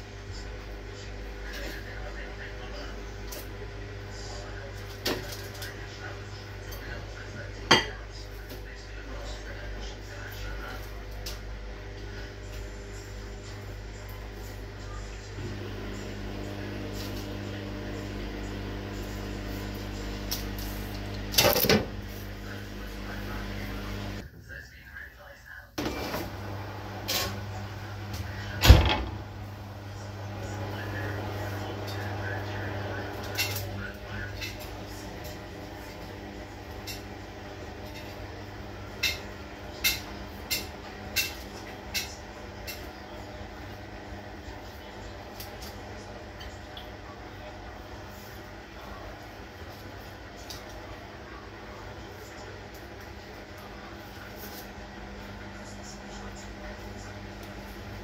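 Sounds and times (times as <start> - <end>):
kitchen appliance humming: 0.0 - 24.2, 25.8 - 58.0.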